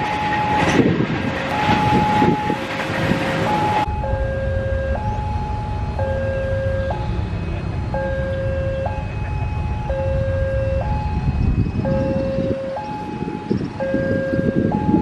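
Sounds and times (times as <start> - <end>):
two-tone crossing alarm: 0.0 - 2.8, 3.4 - 15.0
low rumble: 0.7 - 15.0.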